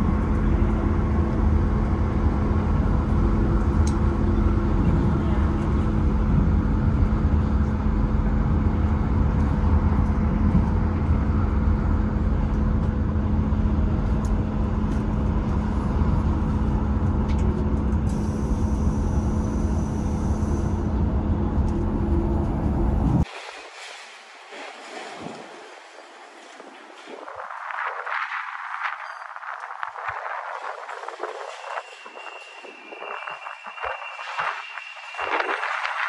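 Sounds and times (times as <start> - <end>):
diesel locomotive engine rumbling: 0.0 - 36.0.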